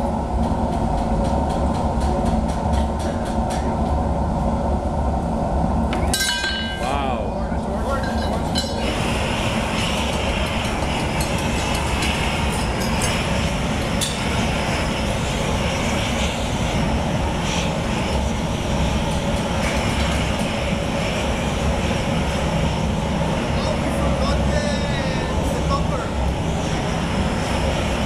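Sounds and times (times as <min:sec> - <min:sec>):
gas torch flame roaring: 0:00.0 - 0:28.0.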